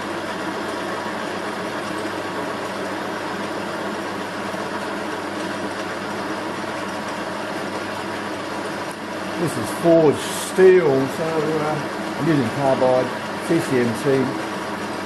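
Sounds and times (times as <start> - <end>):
metal lathe motor humming: 0.0 - 15.0
lathe cutting steel: 0.1 - 15.0.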